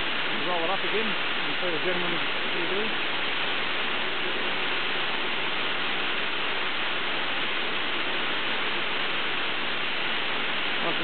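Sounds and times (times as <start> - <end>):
high-pressure water jets spraying: 0.0 - 11.0.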